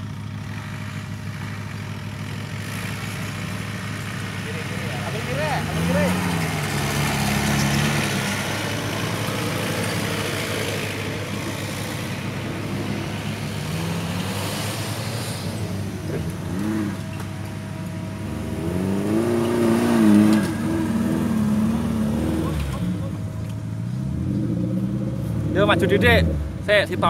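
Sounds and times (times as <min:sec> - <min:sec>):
off-road engines under load: 0:00.0 - 0:27.0.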